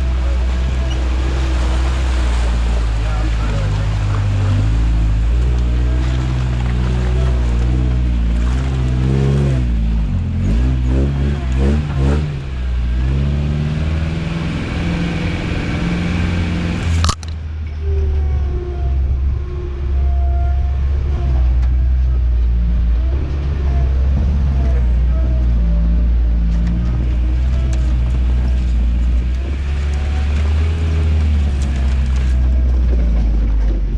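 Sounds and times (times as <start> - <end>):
truck engine running off-road: 0.0 - 33.9.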